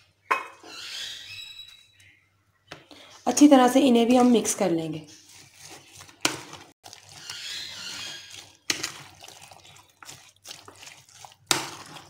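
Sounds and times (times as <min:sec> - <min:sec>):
spoon stirring wet mixture: 0:01.6 - 0:12.0.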